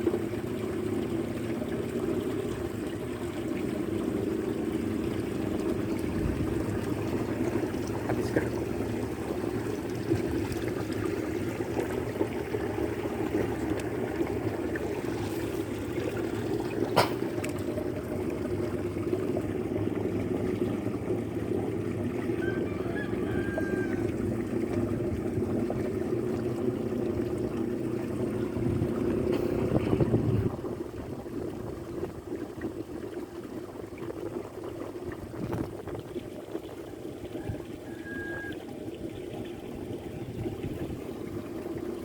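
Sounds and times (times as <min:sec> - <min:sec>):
rush of moving water: 0:00.0 - 0:42.0.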